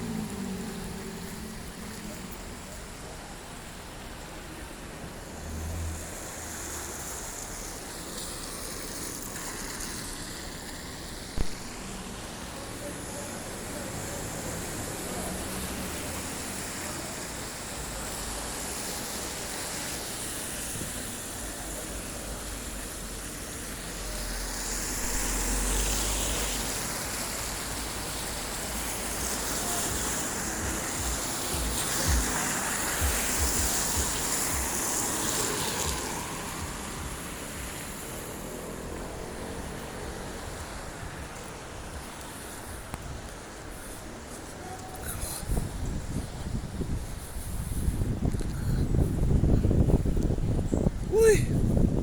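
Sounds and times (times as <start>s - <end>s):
passing road traffic: 0.0s - 52.0s.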